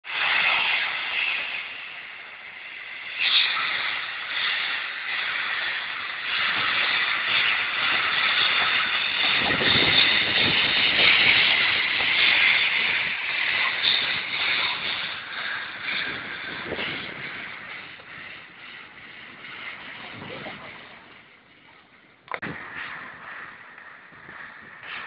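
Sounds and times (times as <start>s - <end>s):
steam locomotive hissing steam: 0.0s - 25.0s.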